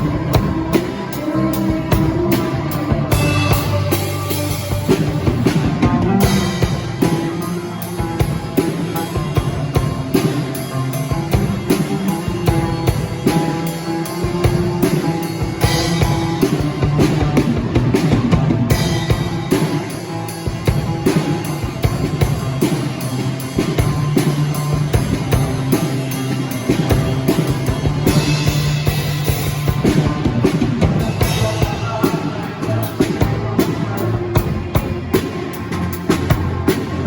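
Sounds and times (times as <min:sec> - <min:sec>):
bass guitar: 0:00.0 - 0:37.0
drum kit steady beat: 0:00.0 - 0:37.0
guitar: 0:00.0 - 0:37.0
live band playing: 0:00.0 - 0:37.0.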